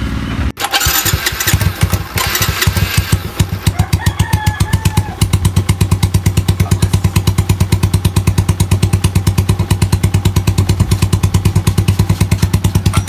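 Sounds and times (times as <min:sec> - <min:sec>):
motorcycle engine idling: 0:00.6 - 0:13.0.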